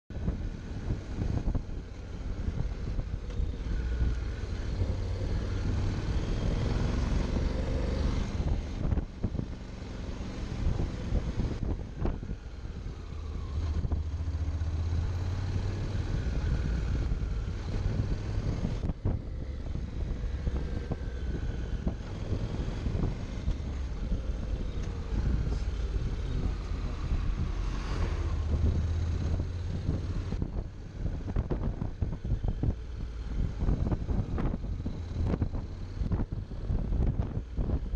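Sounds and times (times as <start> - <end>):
wind on microphone: 0.1 - 37.9
motorcycle engine accelerating: 0.2 - 37.9.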